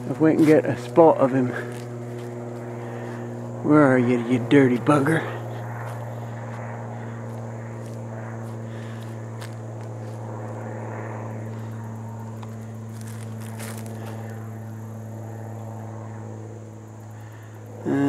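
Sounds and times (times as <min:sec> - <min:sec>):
propeller airplane flying over: 0:00.0 - 0:18.0.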